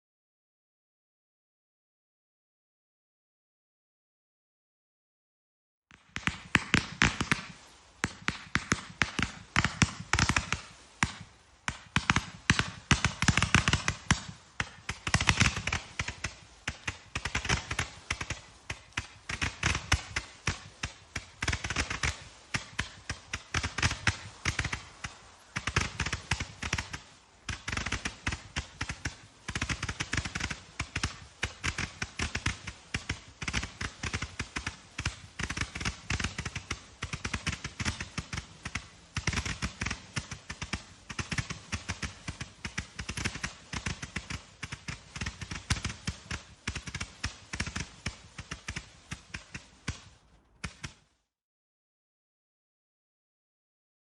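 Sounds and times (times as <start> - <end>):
firework cake rapid pops: 5.9 - 51.4.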